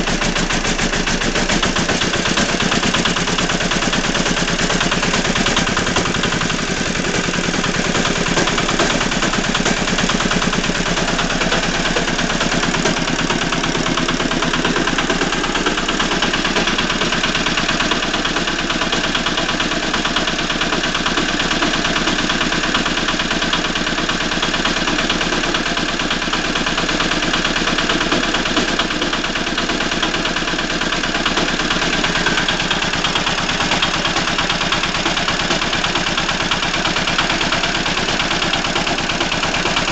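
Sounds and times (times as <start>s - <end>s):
engine knocking: 0.0s - 39.9s
tractor engine running: 0.0s - 39.9s.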